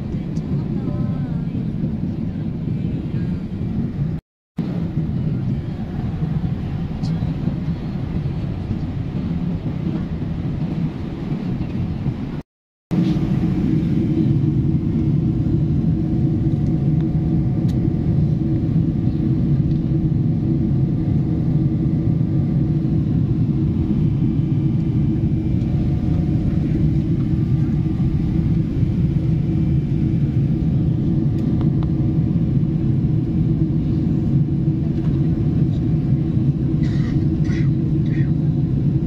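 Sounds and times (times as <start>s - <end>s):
jet engine and airflow roar: 0.0s - 39.0s.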